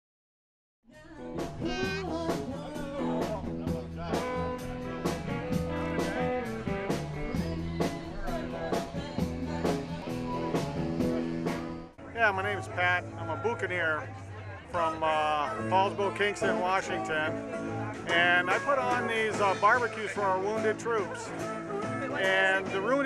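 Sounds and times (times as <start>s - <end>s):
blues music with guitar: 0.9s - 23.0s.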